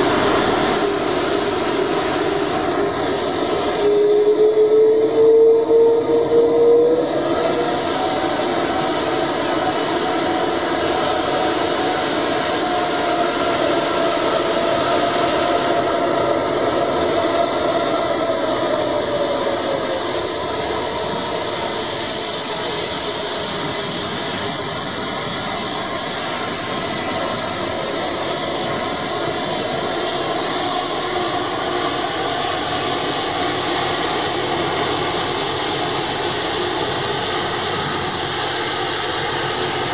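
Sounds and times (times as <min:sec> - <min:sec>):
jet engine roar and whine: 0:00.0 - 0:39.9.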